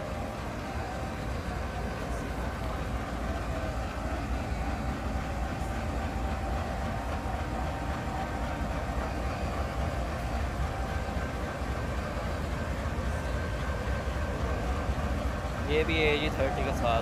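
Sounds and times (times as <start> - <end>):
diesel locomotive rumbling: 0.0 - 17.0
thin steady whine: 0.0 - 17.0.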